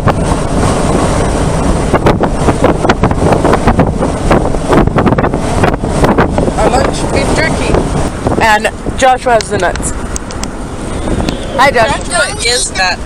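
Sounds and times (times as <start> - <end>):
road noise rumble inside vehicle: 0.0 - 13.0
wind buffeting on microphone: 0.0 - 13.0.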